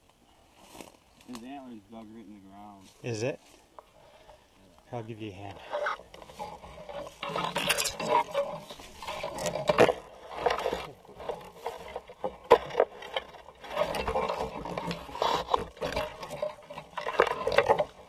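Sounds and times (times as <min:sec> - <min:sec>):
branches rustling and scraping: 0:00.0 - 0:18.0.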